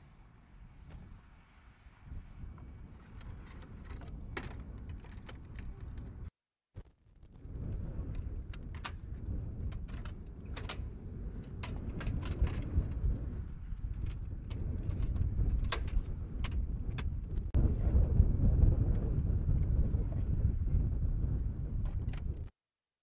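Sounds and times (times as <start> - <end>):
wind rumble on microphone: 0.0 - 6.3, 7.2 - 22.5.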